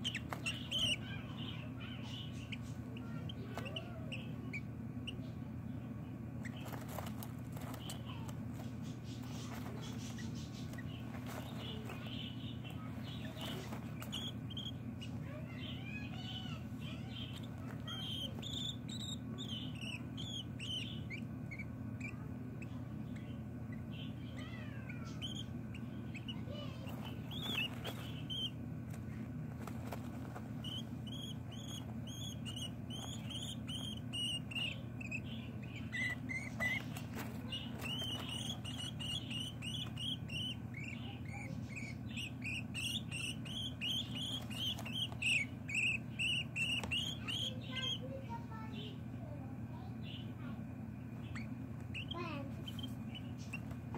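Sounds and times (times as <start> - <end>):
baby budgerigars chirping: 0.0 - 53.9
steady low hum: 0.0 - 53.9.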